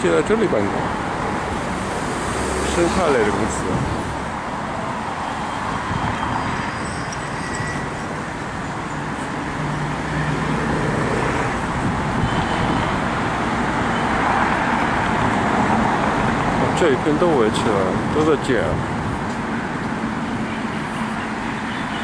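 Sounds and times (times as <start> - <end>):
passing vehicles rushing: 0.0 - 22.0.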